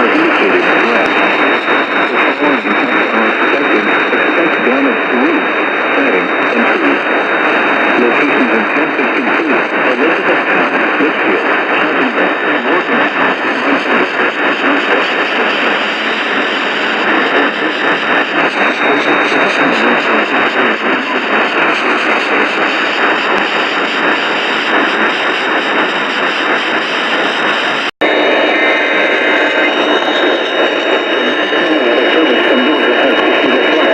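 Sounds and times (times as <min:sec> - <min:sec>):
radio static hiss: 0:00.0 - 0:33.9.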